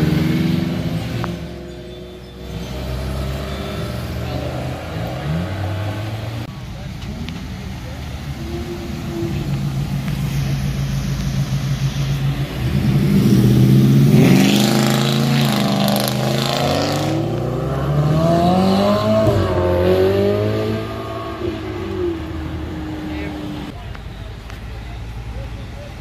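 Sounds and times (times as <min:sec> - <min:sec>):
car engine revving: 0:00.0 - 0:23.8.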